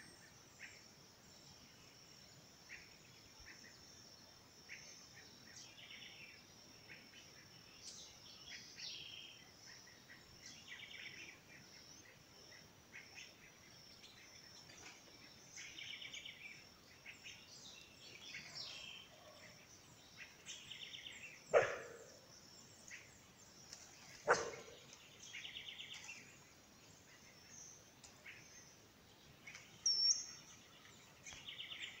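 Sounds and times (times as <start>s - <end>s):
birds chirping: 4.8s - 32.0s.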